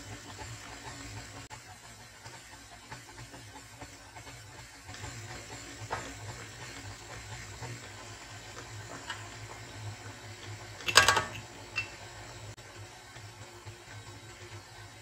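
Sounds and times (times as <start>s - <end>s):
stand mixer running: 0.0s - 15.0s.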